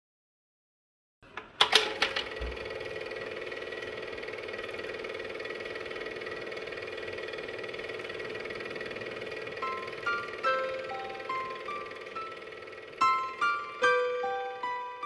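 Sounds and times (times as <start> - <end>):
film projector whirring: 1.3 - 15.0.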